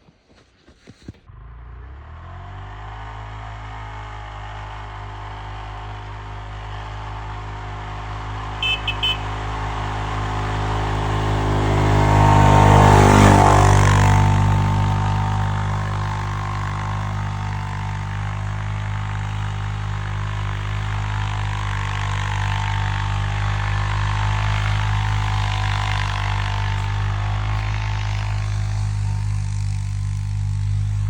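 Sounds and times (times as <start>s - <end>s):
atv engine running: 1.3s - 31.0s.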